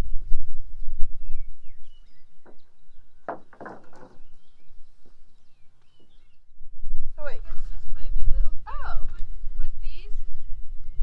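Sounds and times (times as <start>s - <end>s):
small birds chirping: 0.0s - 6.6s, 7.2s - 11.0s.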